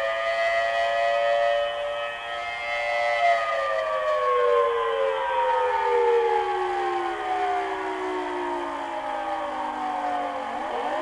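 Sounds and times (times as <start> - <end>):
air raid siren winding down: 0.0 - 11.0.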